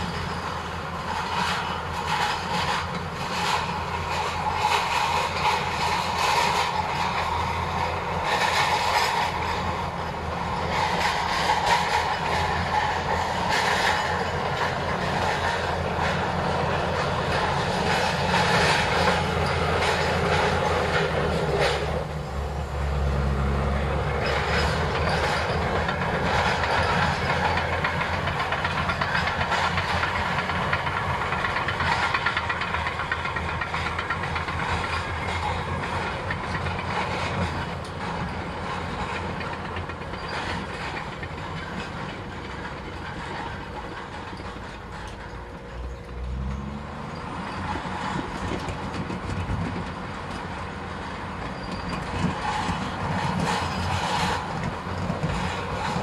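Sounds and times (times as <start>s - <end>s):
bulldozer diesel engine under load: 0.0s - 56.0s
steel tracks clanking: 0.0s - 56.0s.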